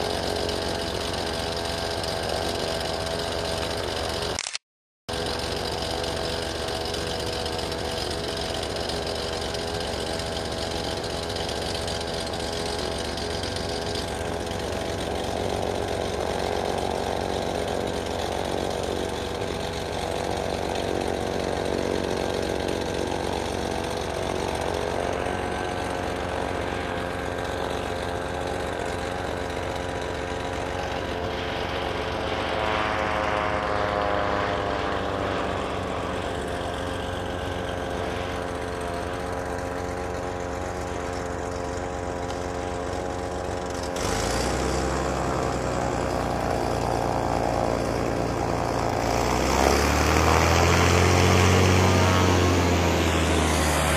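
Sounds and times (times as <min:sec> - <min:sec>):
turboprop plane engine and propeller: 0:00.0 - 0:53.9.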